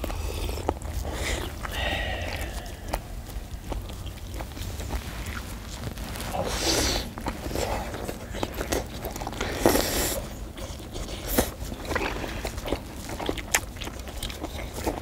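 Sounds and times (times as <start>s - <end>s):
biting and chewing: 0.0s - 15.0s
mouth smacks: 0.0s - 15.0s.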